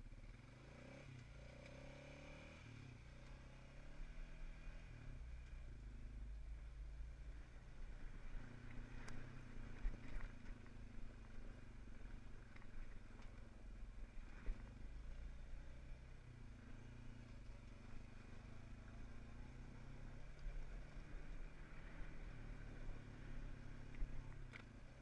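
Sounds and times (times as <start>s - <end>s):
vehicle engine running at low revs: 0.0s - 25.0s.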